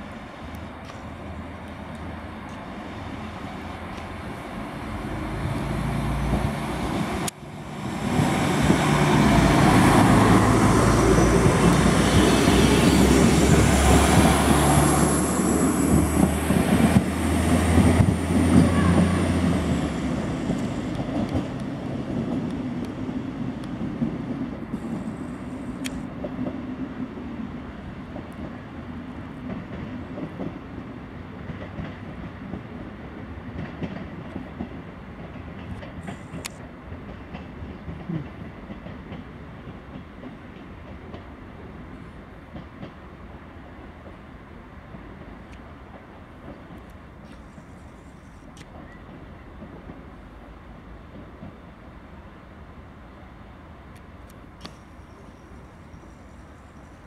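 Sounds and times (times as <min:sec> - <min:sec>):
diesel railbus engine with whine: 0:00.0 - 0:57.0.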